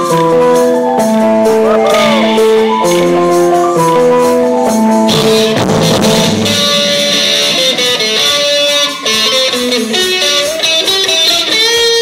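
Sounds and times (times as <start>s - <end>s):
drums: 0.0s - 12.0s
live pop band through pa: 0.0s - 12.0s
strummed guitar: 0.0s - 12.0s.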